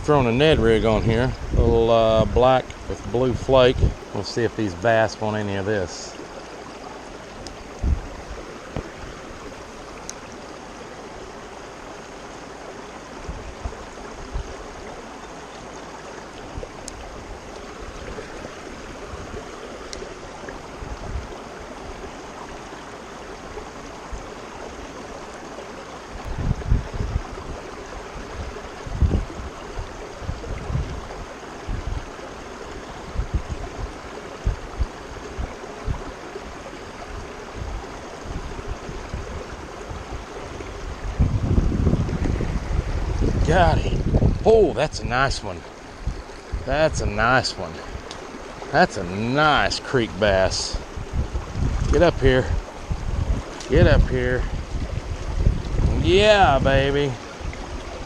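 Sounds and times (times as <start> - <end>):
wind buffeting microphone: 0.0 - 5.2, 7.2 - 10.5, 13.1 - 14.9, 16.4 - 22.8, 26.1 - 58.0
creek water running: 0.0 - 58.0.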